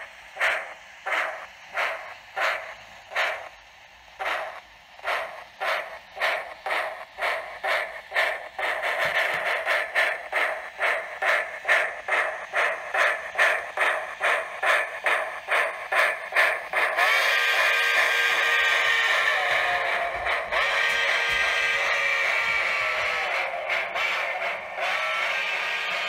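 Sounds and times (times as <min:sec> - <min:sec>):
steam locomotive exhaust chuffs: 0:00.0 - 0:26.0.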